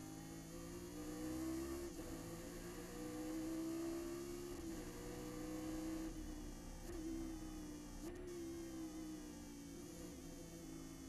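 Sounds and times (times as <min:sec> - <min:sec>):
race car engine full throttle: 0:00.1 - 0:11.0.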